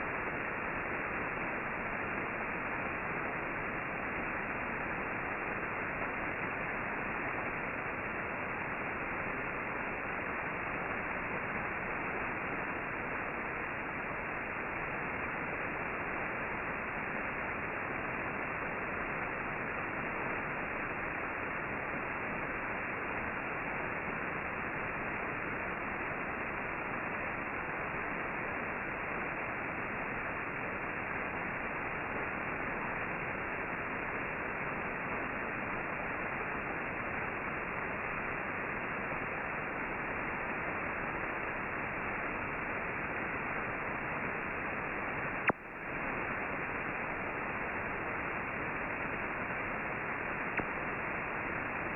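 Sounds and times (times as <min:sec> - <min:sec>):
radio static hiss: 0:00.0 - 0:51.9.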